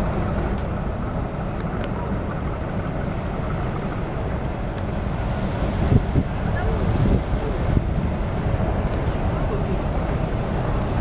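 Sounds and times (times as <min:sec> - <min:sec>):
ship engine low rumble: 0:00.0 - 0:11.0
wind on microphone: 0:00.0 - 0:11.0.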